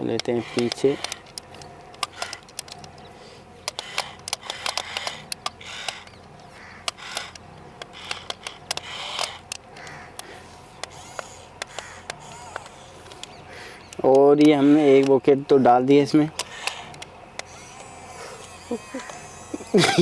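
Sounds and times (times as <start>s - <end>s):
sharp plastic clicks: 0.0s - 15.2s, 16.1s - 20.0s
toy gear motors whirring: 0.0s - 20.0s.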